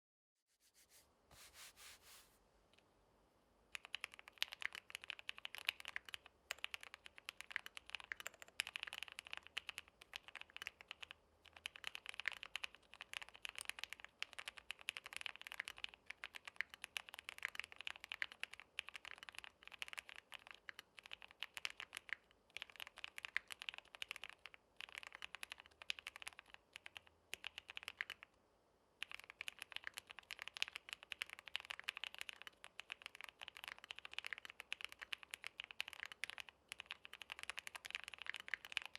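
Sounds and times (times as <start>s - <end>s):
mechanical keyboard typing: 3.8s - 28.3s, 29.0s - 38.9s.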